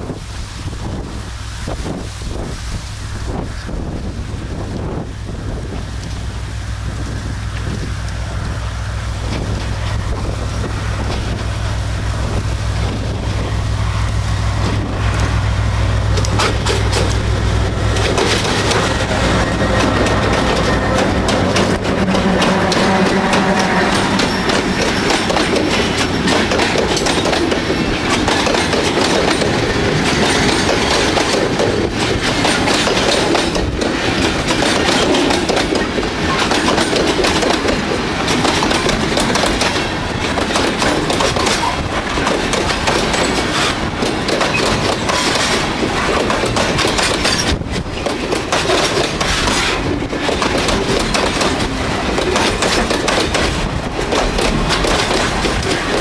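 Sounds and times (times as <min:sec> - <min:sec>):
train wheels rumbling on rail: 0:00.0 - 0:56.0
wheels clacking over rail joints: 0:03.3 - 0:56.0.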